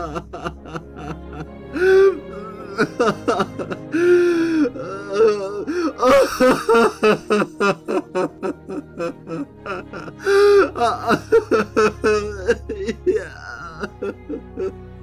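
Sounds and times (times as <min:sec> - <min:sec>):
man sobbing and wailing: 0:00.0 - 0:14.9
film music: 0:00.0 - 0:15.0.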